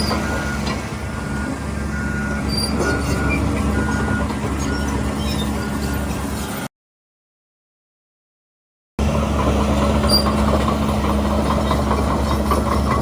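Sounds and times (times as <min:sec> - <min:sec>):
diesel construction machine running: 0:00.0 - 0:06.7, 0:09.0 - 0:13.0.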